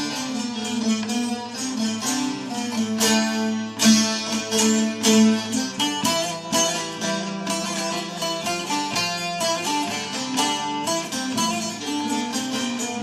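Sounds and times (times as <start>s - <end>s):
plucked string instrument melody: 0.0s - 13.0s.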